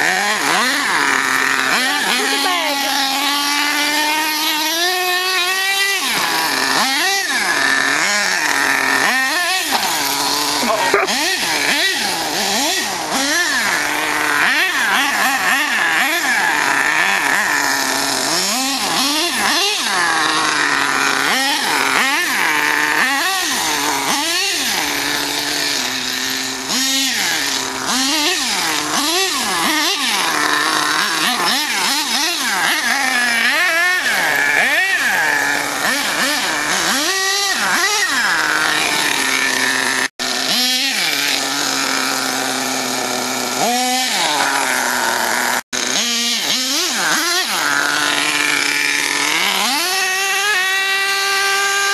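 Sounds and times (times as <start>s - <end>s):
toy truck nitro engine revving: 0.0s - 51.9s.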